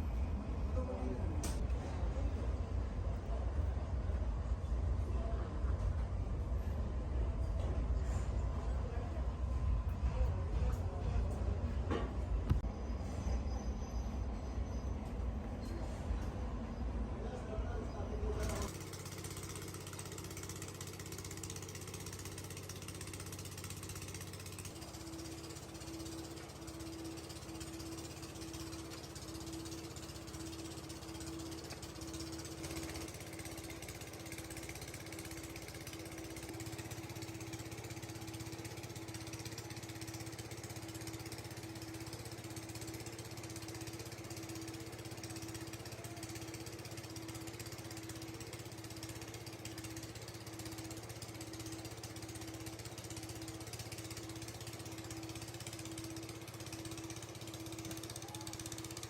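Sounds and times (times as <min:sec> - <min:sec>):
factory machinery humming: 0:00.0 - 0:59.0.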